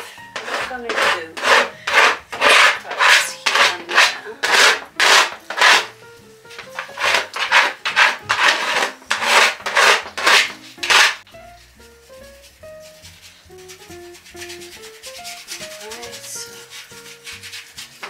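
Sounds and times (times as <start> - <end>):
painting knife scraping canvas: 0.0 - 18.0.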